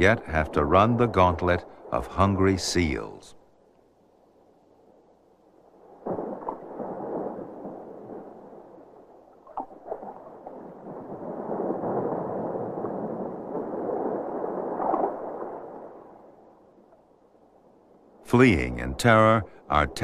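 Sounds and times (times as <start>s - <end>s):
water rushing and gurgling: 0.0s - 3.4s, 5.5s - 20.0s.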